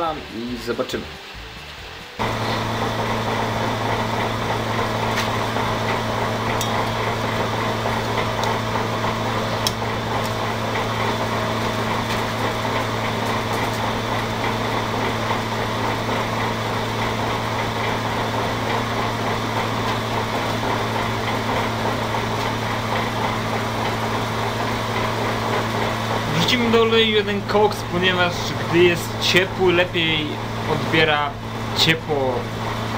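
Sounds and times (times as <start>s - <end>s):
electric blower humming: 2.2s - 32.9s.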